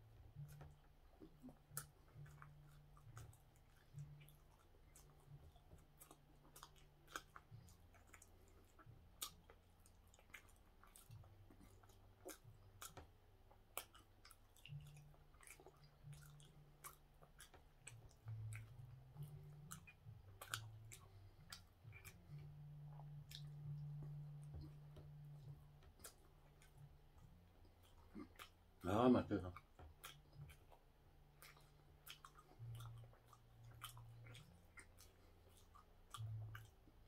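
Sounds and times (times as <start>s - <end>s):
low steady hum: 0.0s - 37.0s
man chewing soft bun: 0.0s - 37.0s.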